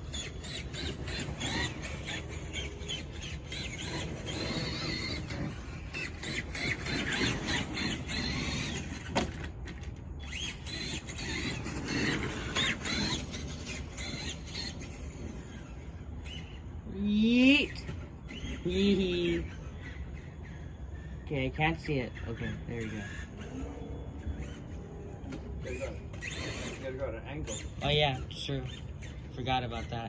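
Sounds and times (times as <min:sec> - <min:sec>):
rc truck motor whining: 0:00.0 - 0:30.0.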